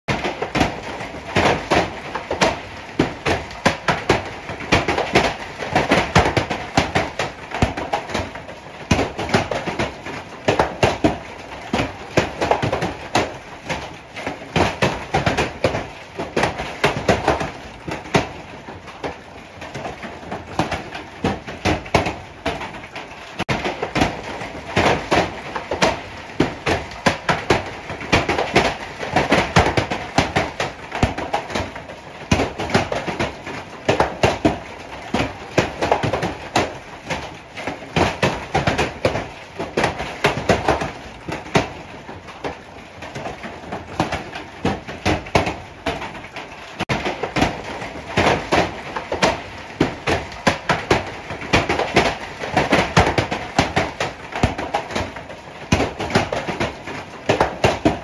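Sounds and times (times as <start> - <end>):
hail pelting a window: 0.1 - 58.0.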